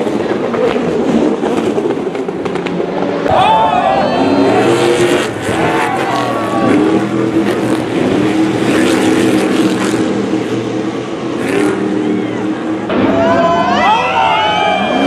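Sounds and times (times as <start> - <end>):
racing truck engines revving: 0.0 - 15.0.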